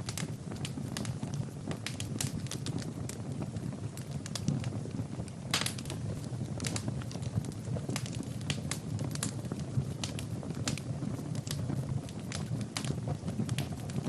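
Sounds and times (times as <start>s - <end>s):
fire snapping and popping: 0.0s - 14.0s
low rumble of flames: 0.0s - 14.0s.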